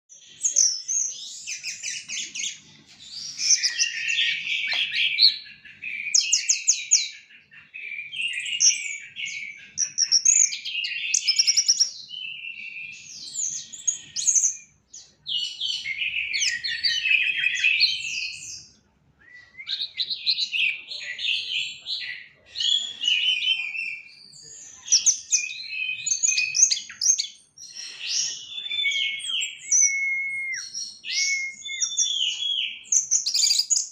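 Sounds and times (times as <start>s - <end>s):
songbird singing: 0.1s - 33.9s.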